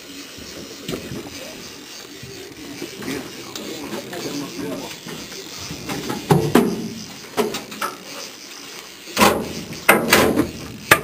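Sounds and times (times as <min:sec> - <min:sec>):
fishing rod and reel knocking: 0:00.0 - 0:11.0.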